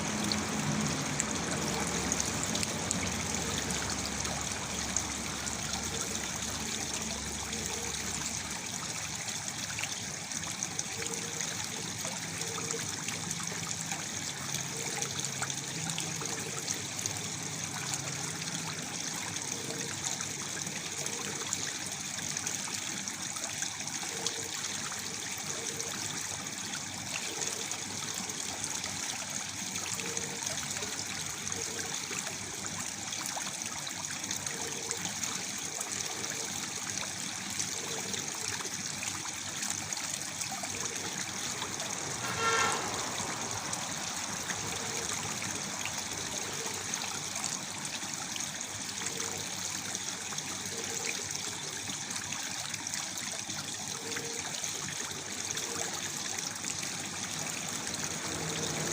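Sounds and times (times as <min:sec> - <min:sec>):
waterfall flowing into pool: 0:00.0 - 0:58.9.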